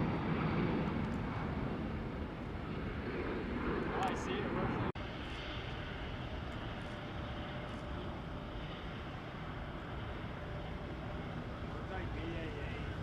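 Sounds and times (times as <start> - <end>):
distant jet engine rumble: 0.0 - 13.0
faint steady whine: 0.0 - 13.0.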